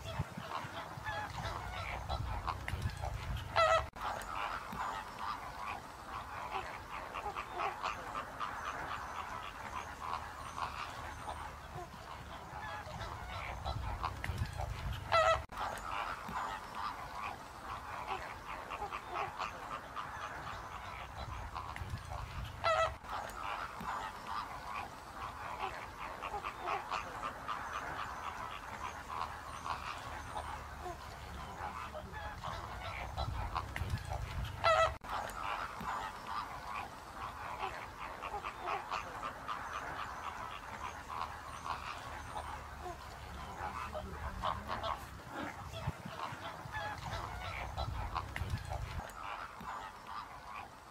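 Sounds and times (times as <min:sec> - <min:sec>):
flock of water birds honking: 0:00.0 - 0:50.9.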